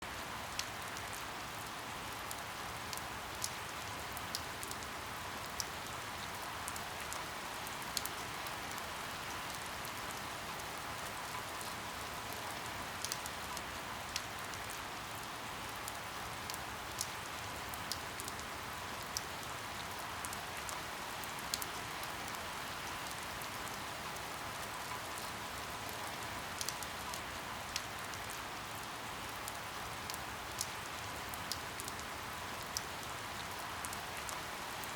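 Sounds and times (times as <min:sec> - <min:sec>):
raindrops ticking close by: 0:00.0 - 0:34.9
steady rain: 0:00.0 - 0:34.9.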